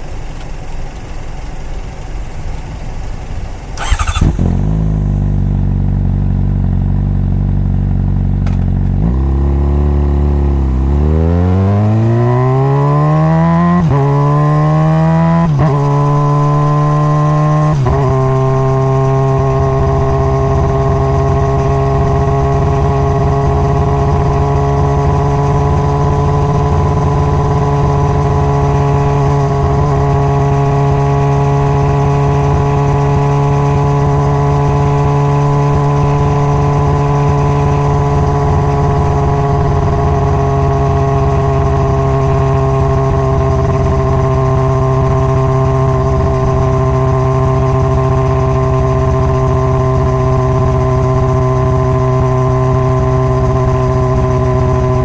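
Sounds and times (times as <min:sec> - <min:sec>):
motorcycle engine upshifting: 0:01.7 - 0:55.0.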